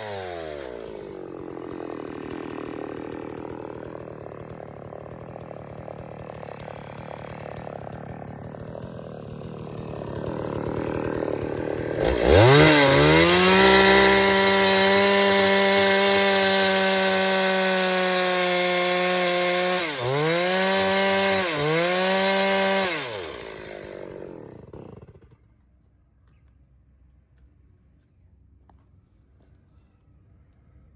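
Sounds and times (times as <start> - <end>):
chainsaw engine revving: 0.0 - 25.5.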